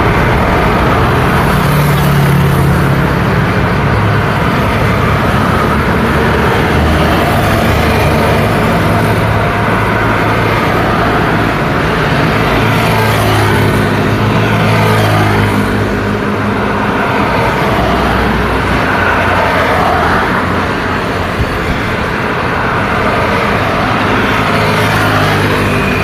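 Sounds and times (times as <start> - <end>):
cars driving past: 0.0 - 26.0
engine hum and tyre noise: 0.0 - 26.0.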